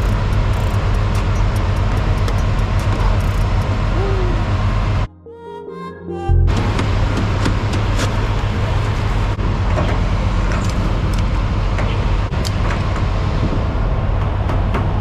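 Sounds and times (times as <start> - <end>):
truck engine rumbling: 0.0 - 5.1, 6.3 - 15.0.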